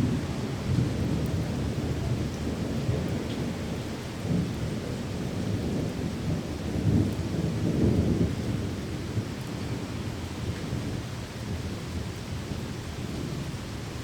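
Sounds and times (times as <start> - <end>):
rolling thunder rumble: 0.0 - 13.5
steady rain: 0.0 - 14.0.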